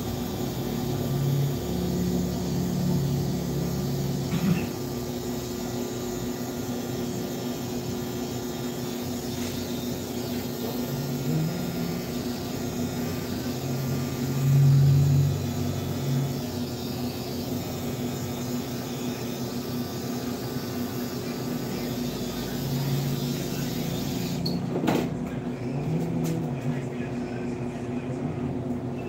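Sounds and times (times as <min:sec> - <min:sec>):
electric hair clippers buzzing: 0:00.0 - 0:24.6.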